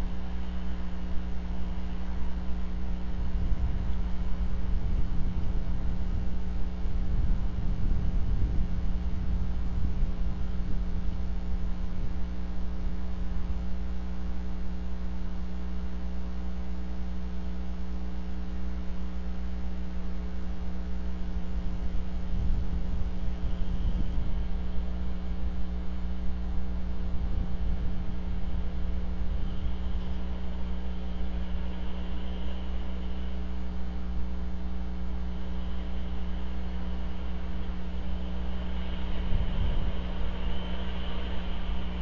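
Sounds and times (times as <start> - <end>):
low rumble: 0.0 - 15.6, 16.3 - 42.0
steady electrical hum: 0.0 - 42.0.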